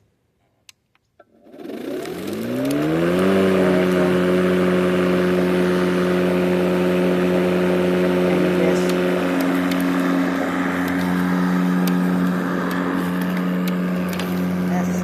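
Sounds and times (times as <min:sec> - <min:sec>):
electric lawn mower whine and hum: 0:01.2 - 0:15.0.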